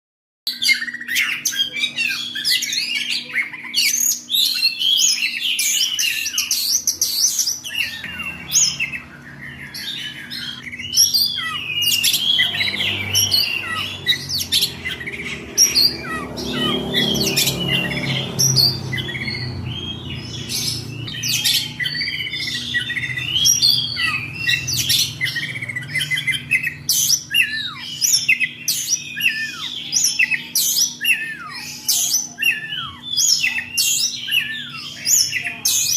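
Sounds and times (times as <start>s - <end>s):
songbird whistles and trills: 0.5s - 35.6s.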